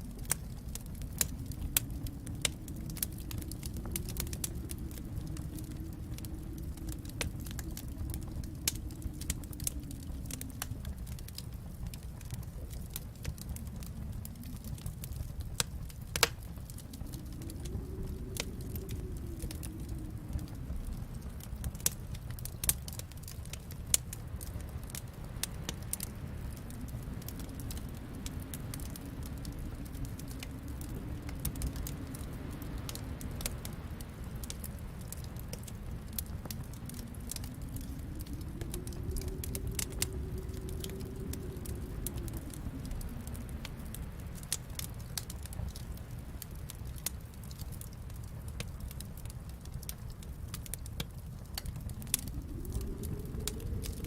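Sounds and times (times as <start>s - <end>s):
wind moaning softly: 0.0s - 54.0s
wood fire crackling: 0.0s - 54.0s.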